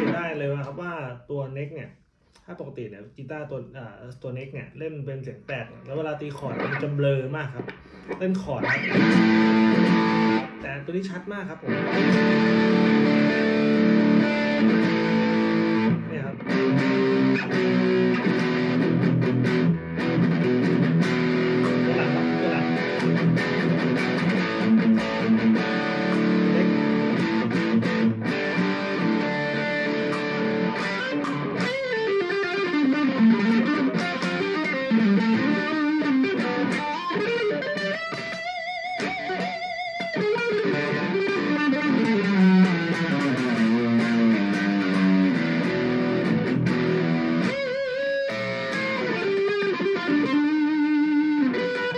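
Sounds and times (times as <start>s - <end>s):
electric guitar playing: 0.0s - 0.8s, 5.8s - 51.9s.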